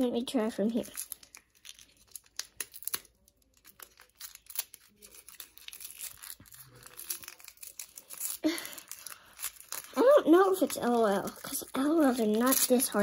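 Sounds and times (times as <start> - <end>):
foil wrapper crinkling and tearing: 0.6 - 13.0.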